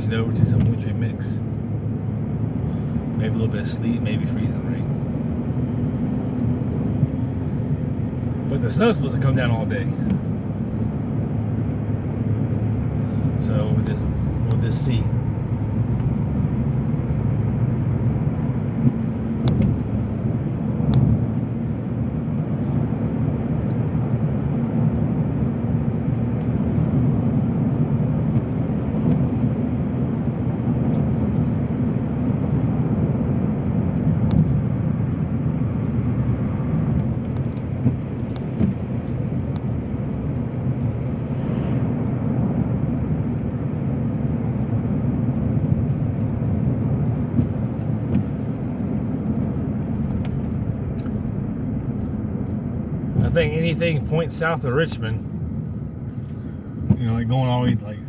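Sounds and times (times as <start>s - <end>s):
car interior road rumble: 0.0s - 58.0s.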